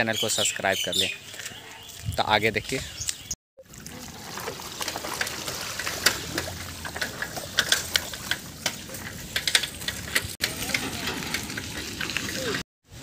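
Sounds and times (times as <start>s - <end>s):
water splashing and trickling: 1.3s - 12.6s.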